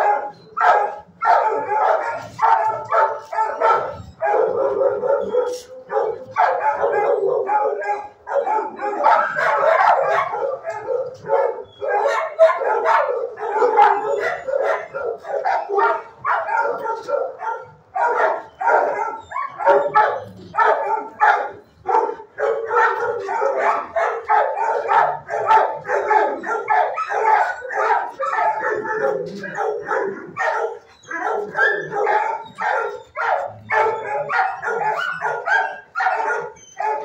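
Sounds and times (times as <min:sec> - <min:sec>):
many dogs barking: 0:00.0 - 0:37.0.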